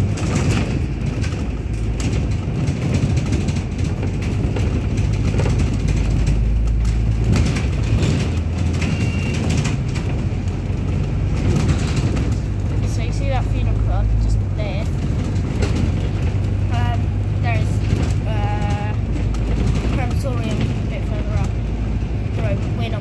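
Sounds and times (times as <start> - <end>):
bus engine and road rumble: 0.0 - 23.0
light rattles: 0.0 - 23.0.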